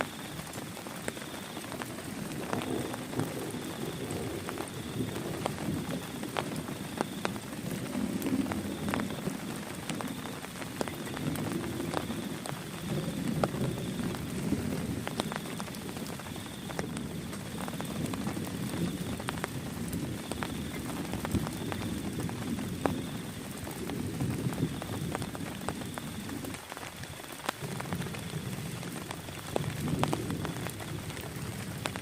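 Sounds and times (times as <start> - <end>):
heavy rain falling: 0.0 - 32.0
raindrops tapping on a surface: 0.0 - 32.0.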